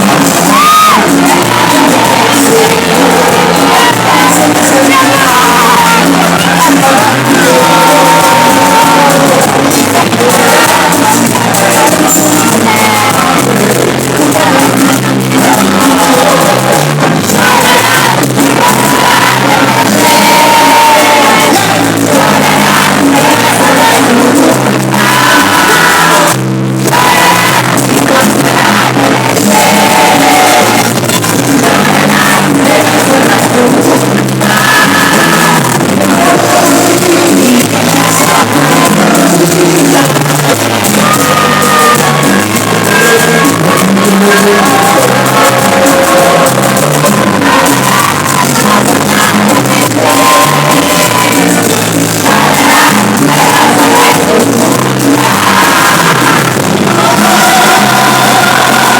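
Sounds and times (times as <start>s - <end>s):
live band playing: 0.0s - 58.9s
person singing: 0.0s - 58.9s.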